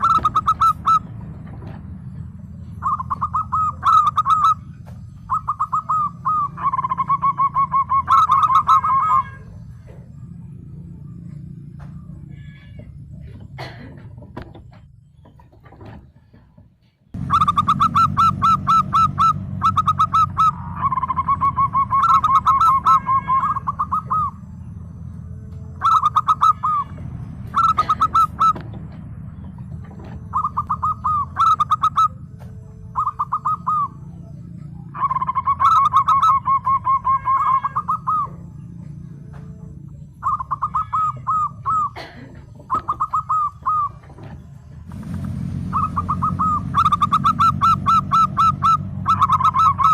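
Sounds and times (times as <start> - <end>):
dove cooing: 0.0 - 16.4, 17.2 - 49.9.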